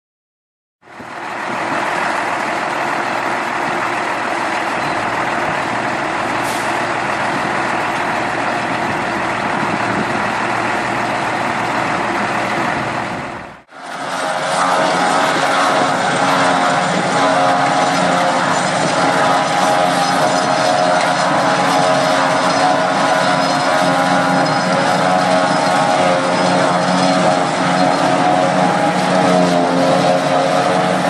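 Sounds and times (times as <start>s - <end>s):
farm machinery engine running: 0.8s - 31.0s
broad rushing noise: 0.9s - 31.0s
steady machine engine hum: 0.9s - 31.0s.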